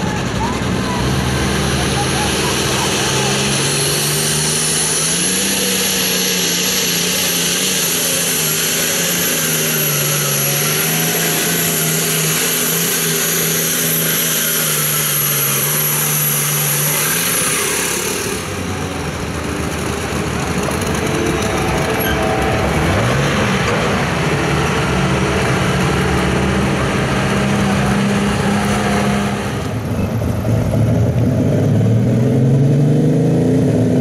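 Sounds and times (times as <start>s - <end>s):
diesel engine running flat out: 0.0s - 34.0s.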